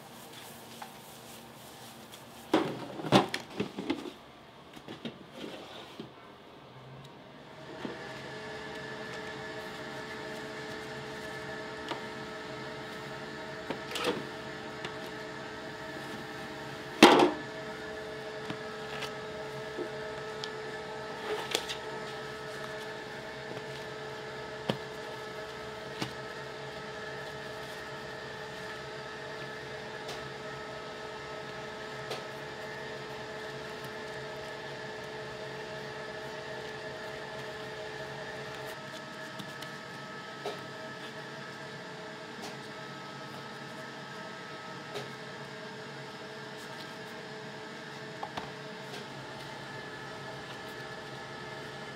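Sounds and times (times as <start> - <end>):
machine hum with tones: 6.7 - 51.9.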